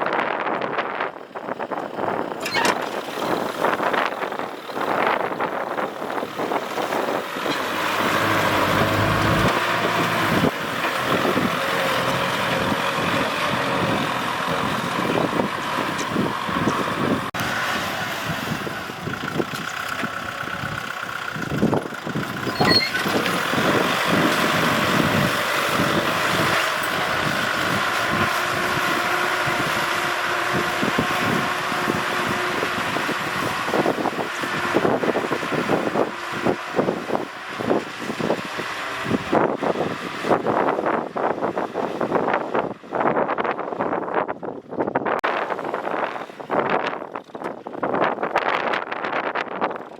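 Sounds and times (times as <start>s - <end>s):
tractor engine running under load: 0.0s - 49.9s.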